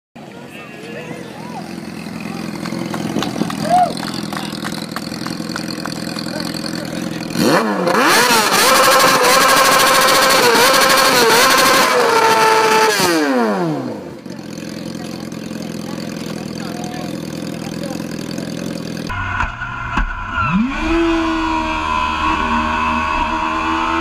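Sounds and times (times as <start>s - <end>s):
motorcycle engine revving: 0.9s - 24.0s.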